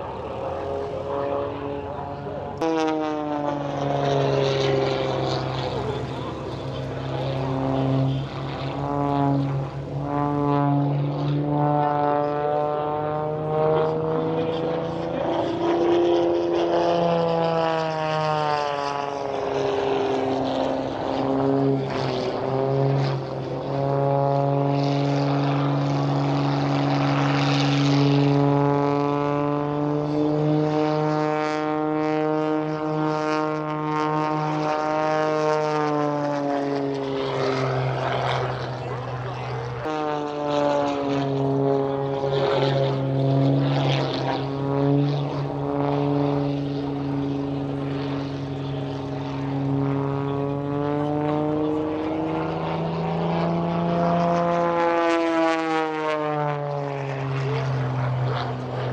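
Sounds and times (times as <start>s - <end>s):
propeller airplanes flying past: 0.0s - 58.9s.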